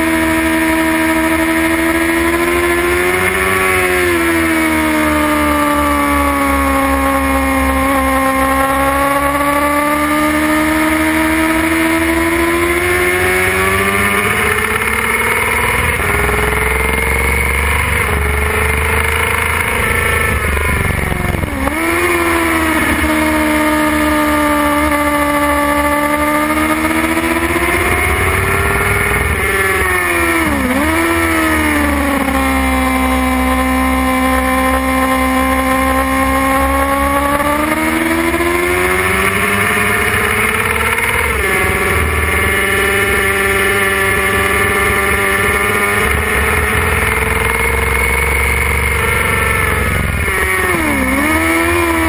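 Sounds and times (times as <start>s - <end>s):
motorcycle engine at high revs: 0.0s - 52.0s.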